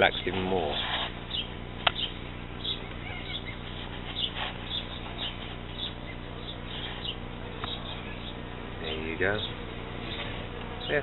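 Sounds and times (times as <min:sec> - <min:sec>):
honeybees humming: 0:00.0 - 0:11.0
small birds chirping: 0:00.0 - 0:11.0.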